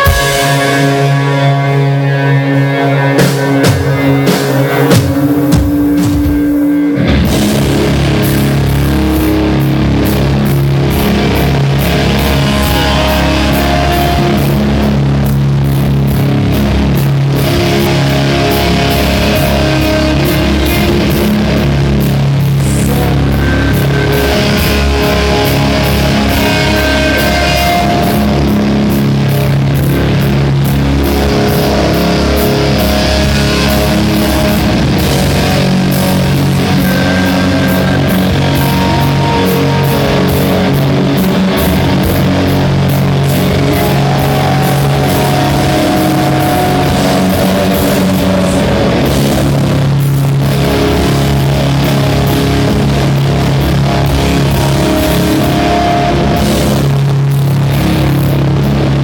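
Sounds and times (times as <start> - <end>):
distorted electric guitar chords: 0.0 - 59.0
rock band with pounding drums: 0.0 - 59.0.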